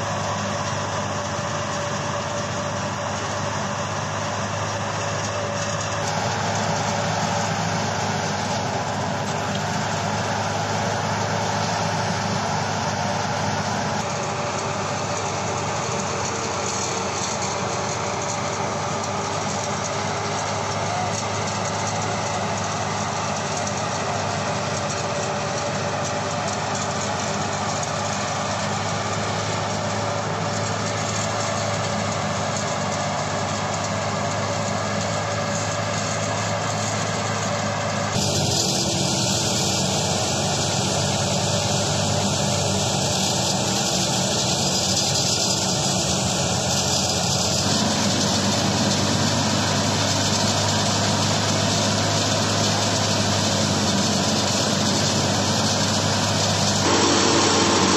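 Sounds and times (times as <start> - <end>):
threshing machine droning: 0.0 - 57.9.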